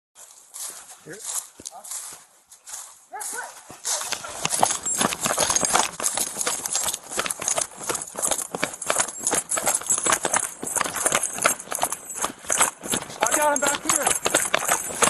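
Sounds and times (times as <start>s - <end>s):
running footsteps on dry leaves: 0.2s - 15.0s.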